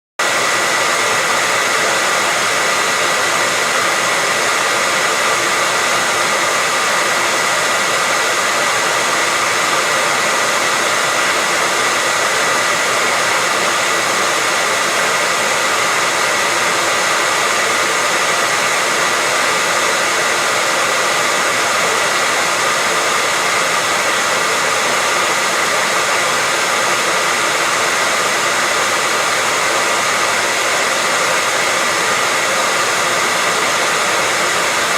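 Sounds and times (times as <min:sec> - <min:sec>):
hair dryer blowing air: 0:00.2 - 0:34.9
hair dryer motor whine: 0:00.2 - 0:34.9.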